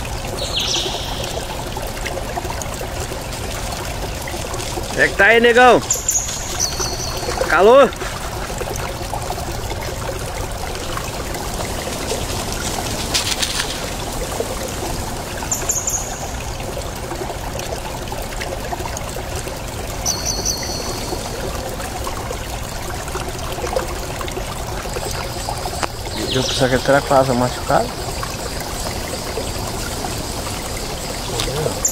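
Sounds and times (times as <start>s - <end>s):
river water trickling: 0.0s - 31.9s.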